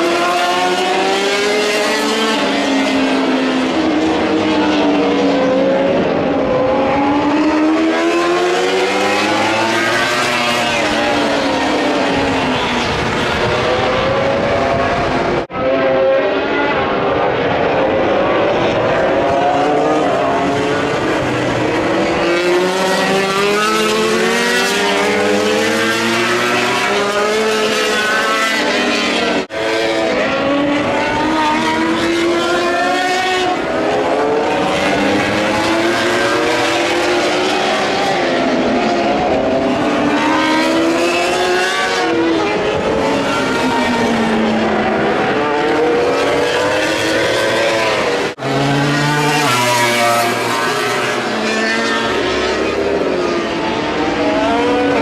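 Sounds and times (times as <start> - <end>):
racing motorcycle engines at high revs: 0.0 - 55.0.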